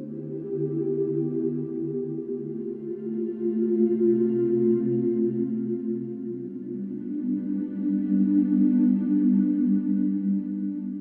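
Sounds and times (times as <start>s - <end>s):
ambient music with sustained low notes: 0.0s - 11.0s.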